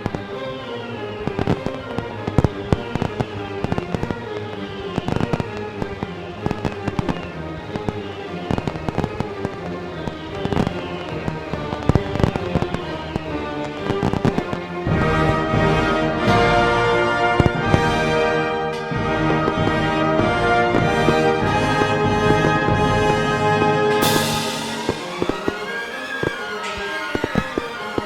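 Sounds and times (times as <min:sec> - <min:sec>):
orchestral music: 0:00.0 - 0:28.0
fireworks bursting and crackling: 0:01.2 - 0:15.4, 0:16.3 - 0:28.0.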